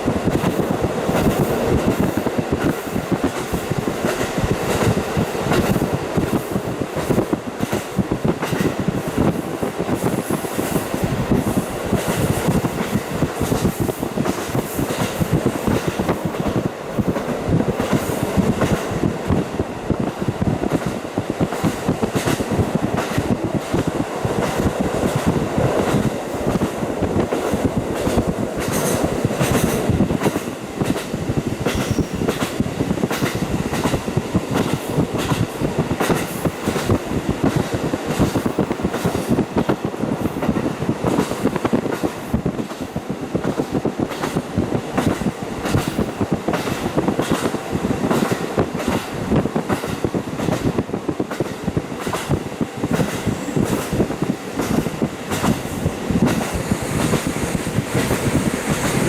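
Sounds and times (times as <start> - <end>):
railcar running rumble: 0.0 - 59.0.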